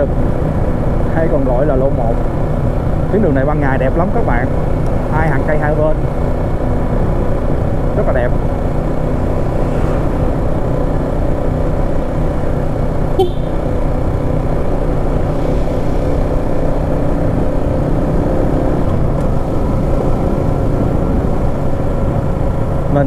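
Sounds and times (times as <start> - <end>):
motorcycle engine running: 0.1 - 23.0.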